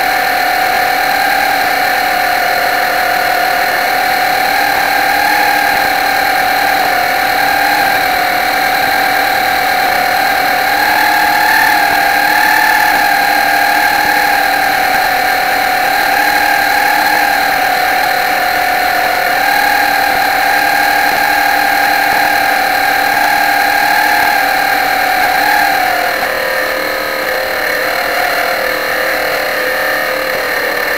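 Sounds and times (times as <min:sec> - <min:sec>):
model boat motor whining: 0:00.0 - 0:30.9.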